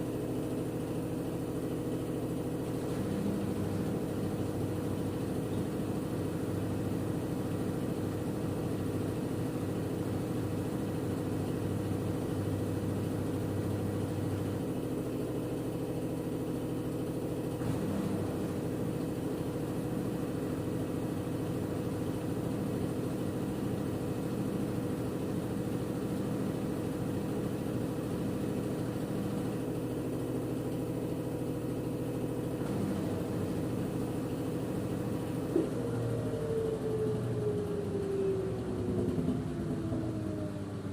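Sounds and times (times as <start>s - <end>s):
washing machine drum spinning: 0.0s - 40.9s.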